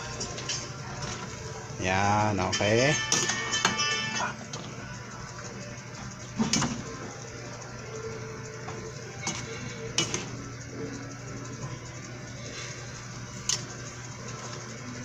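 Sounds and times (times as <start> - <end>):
faint sizzle and hum: 0.0 - 15.0.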